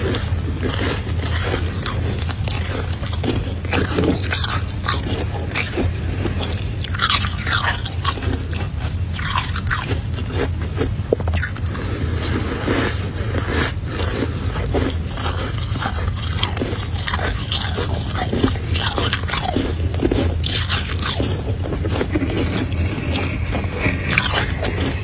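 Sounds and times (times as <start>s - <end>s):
crunching while eating: 0.0s - 25.0s
spoon scraping frost: 0.0s - 25.0s
steady low hum: 0.0s - 25.0s.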